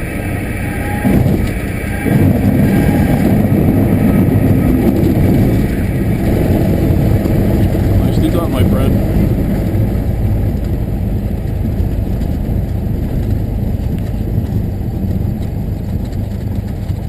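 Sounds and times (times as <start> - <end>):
light aircraft engine and propeller: 0.0 - 17.0.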